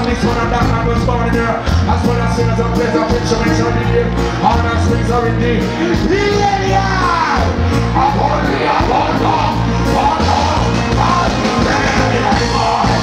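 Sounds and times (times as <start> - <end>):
heavy bass line: 0.0 - 13.0
keyboards: 0.0 - 13.0
person singing into a microphone: 0.0 - 13.0
reggae music through a pa: 0.0 - 13.0.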